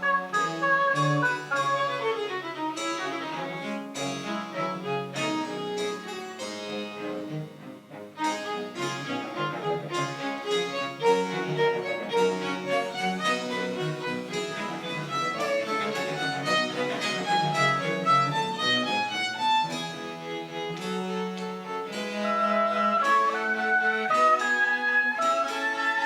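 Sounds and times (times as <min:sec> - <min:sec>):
baroque string ensemble music: 0:00.0 - 0:26.0.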